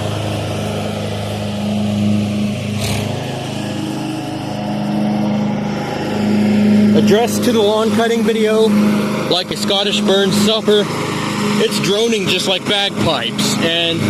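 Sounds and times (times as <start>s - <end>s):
lawn mower engine droning: 0.0s - 14.0s.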